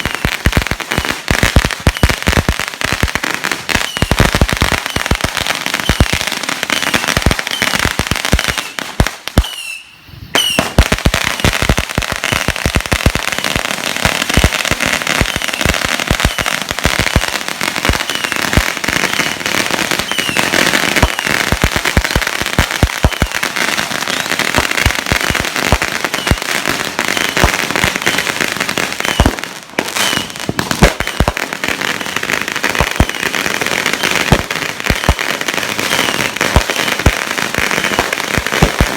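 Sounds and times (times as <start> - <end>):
firecrackers banging and crackling: 0.0 - 38.9.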